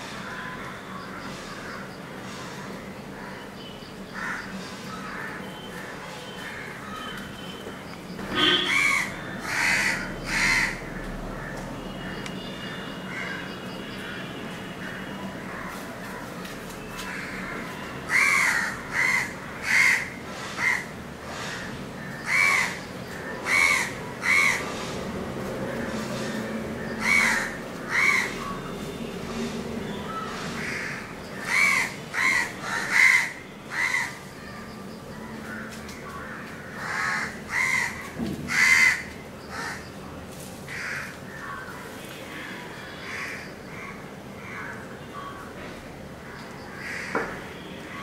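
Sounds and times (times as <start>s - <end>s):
crows cawing: 0.1s - 2.0s, 4.1s - 7.2s, 8.4s - 12.2s, 13.1s - 16.4s, 17.0s - 24.9s, 25.7s - 28.6s, 30.1s - 39.9s, 40.7s - 45.5s, 46.2s - 47.4s.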